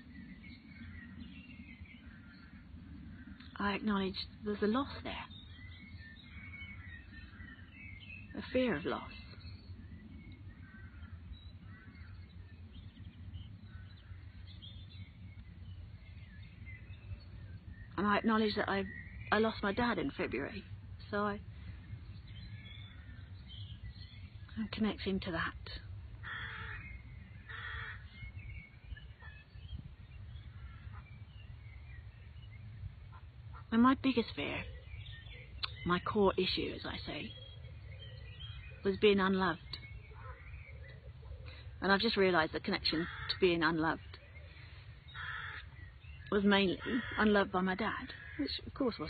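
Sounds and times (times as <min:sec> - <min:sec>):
birds chirping: 0:00.0 - 0:49.0
low steady rumble: 0:00.0 - 0:49.0.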